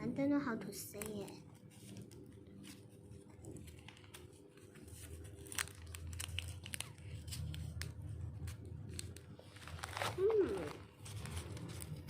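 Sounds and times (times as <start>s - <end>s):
plastic packaging crinkling and tearing: 0.8s - 12.0s.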